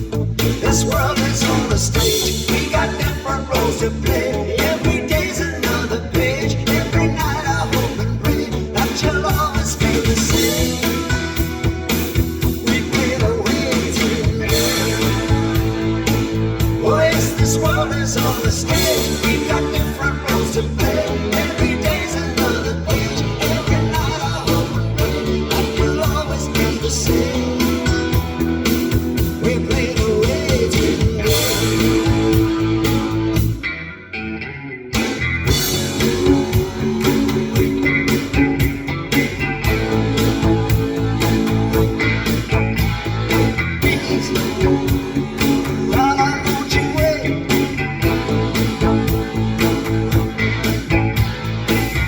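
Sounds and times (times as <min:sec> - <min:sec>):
instrumental rock music: 0:00.0 - 0:52.0.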